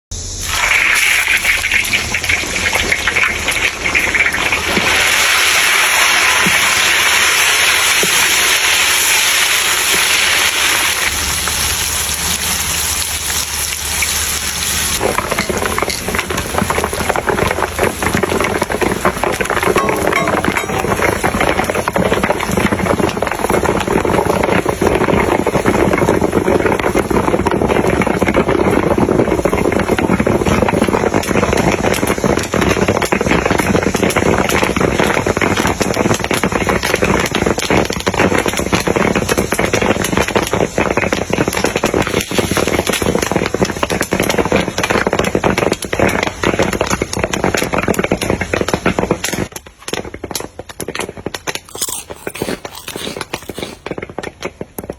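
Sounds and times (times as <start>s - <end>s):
popcorn popping: 0.6s - 54.9s.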